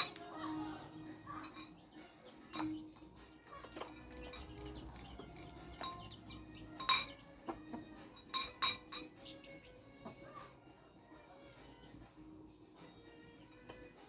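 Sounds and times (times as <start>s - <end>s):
beaks tapping a dish: 0.0s - 14.0s.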